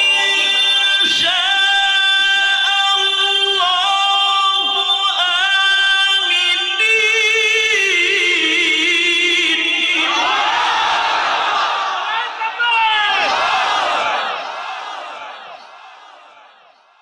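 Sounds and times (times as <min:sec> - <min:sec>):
voice chanting melodically: 0:00.0 - 0:16.7.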